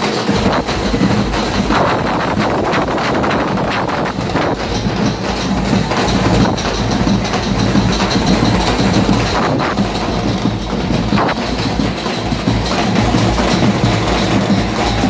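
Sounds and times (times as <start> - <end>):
sharp hits: 0.0 - 15.0
steady low hum: 0.0 - 15.0
street procession din: 0.0 - 15.0.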